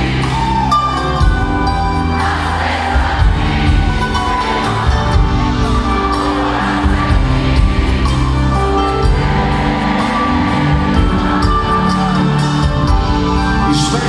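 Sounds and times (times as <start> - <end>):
live band music with singing: 0.0 - 14.0.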